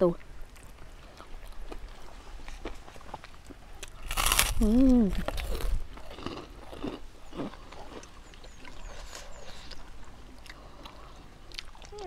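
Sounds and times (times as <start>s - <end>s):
chewing and mouth smacking: 0.2s - 12.0s.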